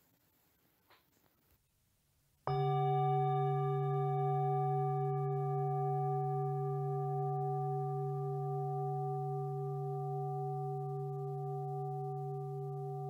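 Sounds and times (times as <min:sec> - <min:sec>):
sustained ringing tone: 0:02.5 - 0:13.0.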